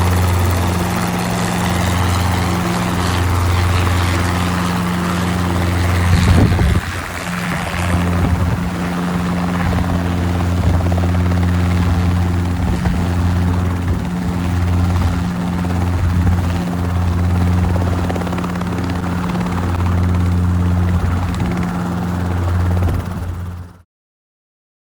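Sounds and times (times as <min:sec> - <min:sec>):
helicopter rotor and engine drone: 0:00.0 - 0:23.9.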